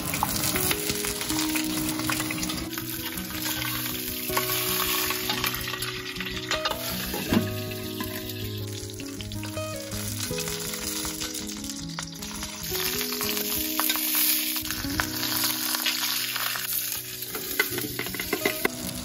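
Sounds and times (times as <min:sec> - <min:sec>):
meat sizzling in hot oil: 0:00.0 - 0:19.0
soft background music: 0:00.0 - 0:19.0.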